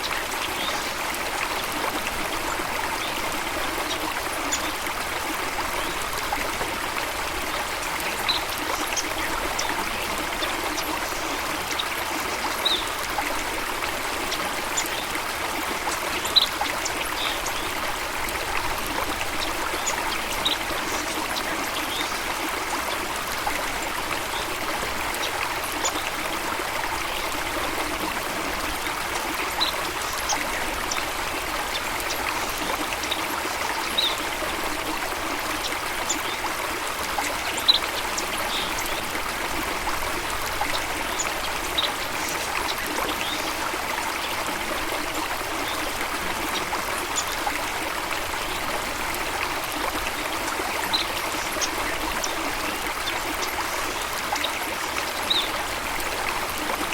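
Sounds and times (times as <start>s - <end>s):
stream water trickling: 0.0s - 56.9s.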